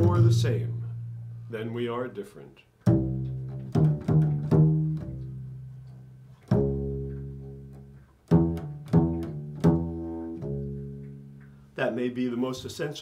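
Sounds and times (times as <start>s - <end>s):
plucked low string notes: 0.0s - 2.0s, 2.8s - 11.7s.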